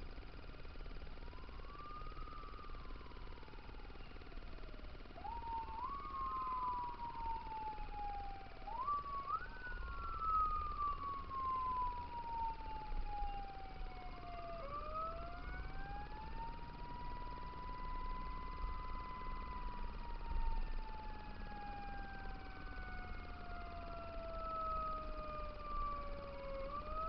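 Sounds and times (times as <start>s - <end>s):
fire engine siren: 0.8s - 27.0s.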